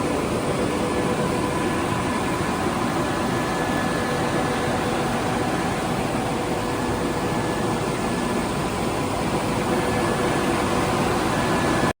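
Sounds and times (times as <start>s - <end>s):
washing machine rushing noise: 0.0s - 11.9s.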